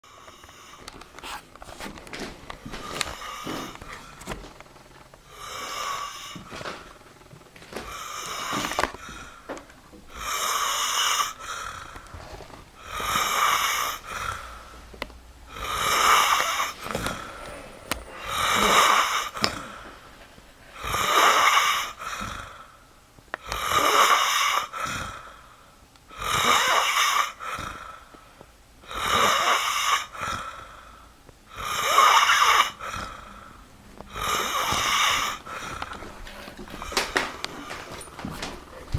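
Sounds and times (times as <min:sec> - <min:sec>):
snoring: 0:02.6 - 0:04.3, 0:05.2 - 0:07.0, 0:07.8 - 0:09.5, 0:10.1 - 0:22.8, 0:23.4 - 0:28.2, 0:28.8 - 0:38.1.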